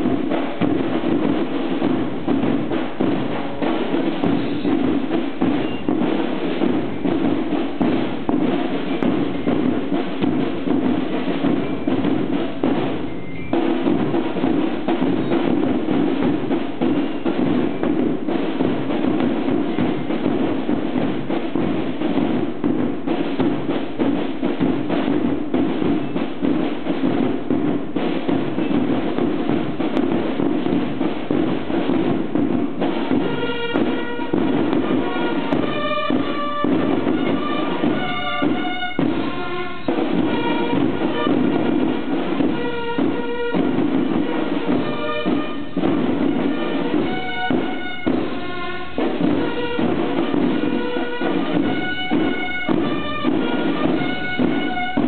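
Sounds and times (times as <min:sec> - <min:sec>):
drums beating steady rhythm: 0:00.0 - 0:55.0
marching band playing: 0:00.0 - 0:55.0
trumpet: 0:00.0 - 0:55.0.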